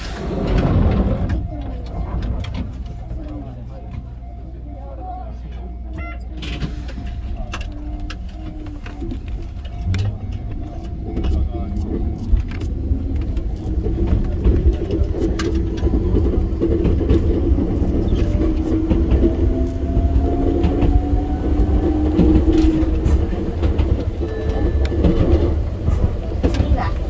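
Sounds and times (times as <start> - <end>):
train rumble: 0.0 - 27.0.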